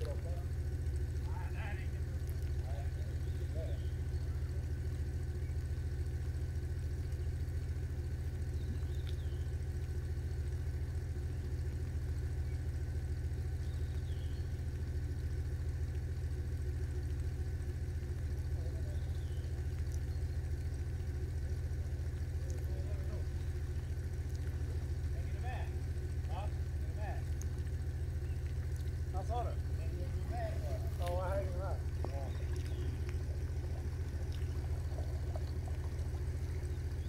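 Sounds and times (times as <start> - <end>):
motor idling: 0.0 - 37.0.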